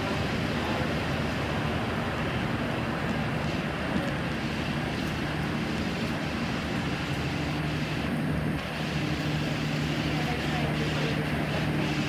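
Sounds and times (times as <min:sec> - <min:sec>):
standing train humming: 0:00.0 - 0:12.0.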